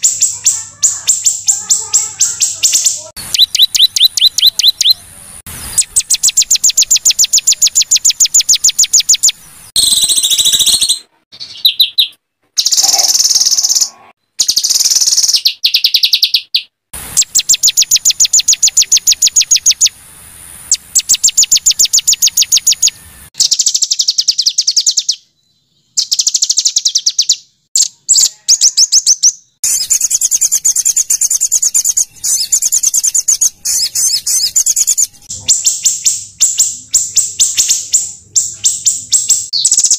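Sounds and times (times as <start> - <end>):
songbirds singing harsh trills: 0.0 - 20.0, 20.7 - 39.9.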